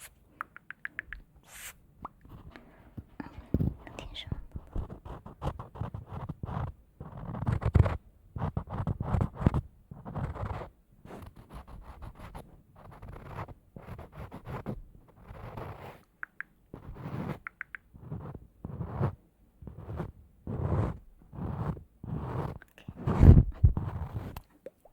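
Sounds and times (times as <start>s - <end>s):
scratching and scraping: 1.4s - 2.6s, 3.5s - 16.1s, 16.7s - 24.5s.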